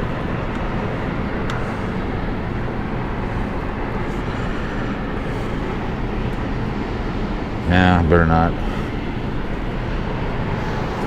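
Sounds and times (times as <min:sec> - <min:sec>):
outdoor rushing background noise: 0:00.0 - 0:11.0.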